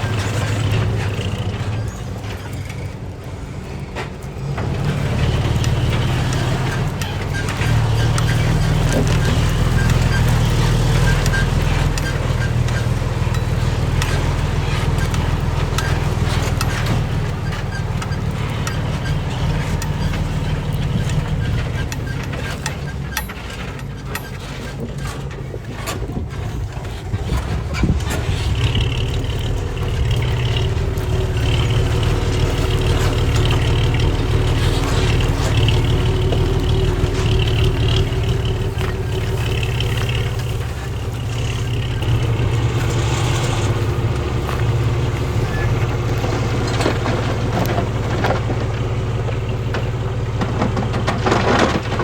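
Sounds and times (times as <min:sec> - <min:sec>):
diesel machinery engine: 0:00.0 - 0:52.0
machinery clanks and rattles: 0:00.0 - 0:52.0.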